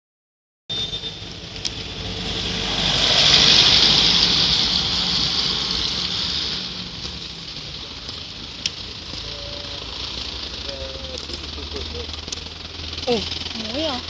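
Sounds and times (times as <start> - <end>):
vehicle passing on wet road: 1.2 - 14.0.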